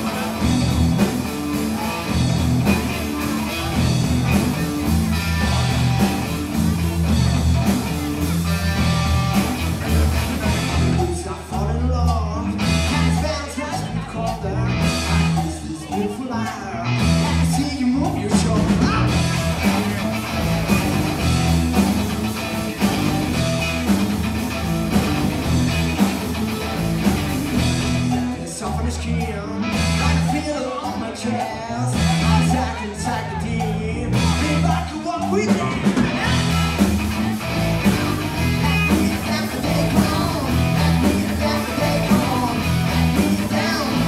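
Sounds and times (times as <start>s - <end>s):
drum kit: 0.0s - 44.0s
electric bass: 0.0s - 44.0s
electric guitar: 0.0s - 44.0s.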